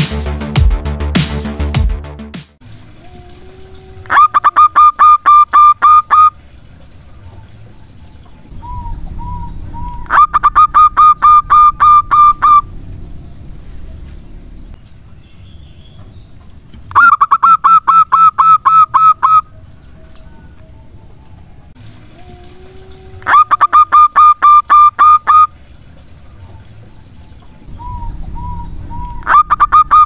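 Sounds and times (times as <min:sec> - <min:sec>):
doves cooing: 0:02.9 - 0:15.2, 0:16.0 - 0:30.0.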